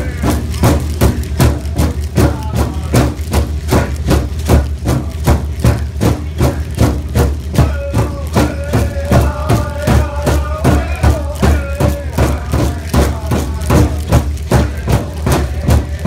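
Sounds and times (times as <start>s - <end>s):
big drum beating: 0.0s - 16.0s
high singing voices: 0.0s - 16.0s.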